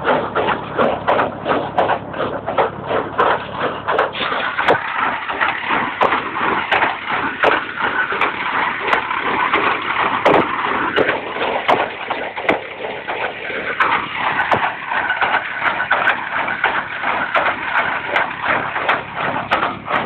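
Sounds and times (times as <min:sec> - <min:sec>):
hay baler clattering: 0:00.0 - 0:20.0.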